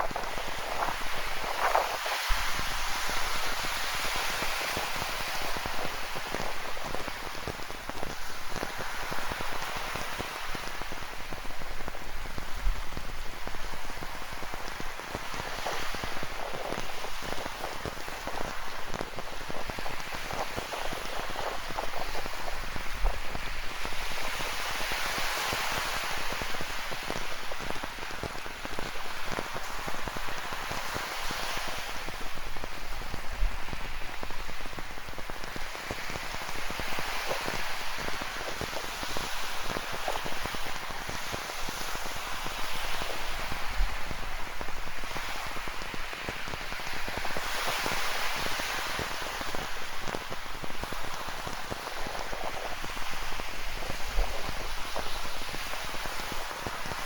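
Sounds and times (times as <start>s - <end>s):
ocean surf: 0.0s - 57.0s
rain pattering: 0.0s - 57.0s.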